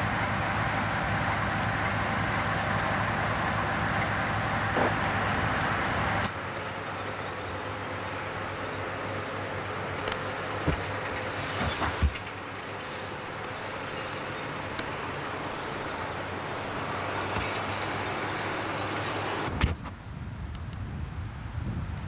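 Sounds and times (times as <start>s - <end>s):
diesel locomotives idling: 0.0s - 21.9s
rail yard background: 0.0s - 22.0s.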